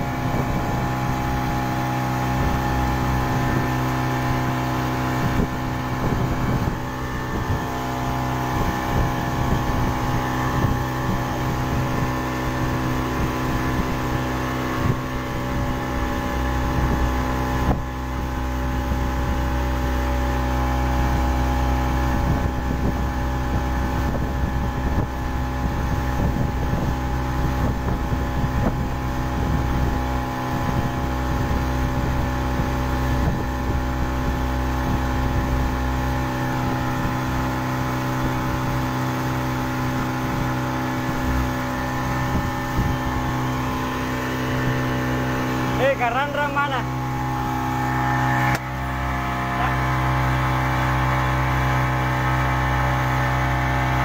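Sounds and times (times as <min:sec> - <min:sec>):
outboard motor running: 0:00.0 - 0:54.0
water rushing from wake: 0:00.0 - 0:54.0.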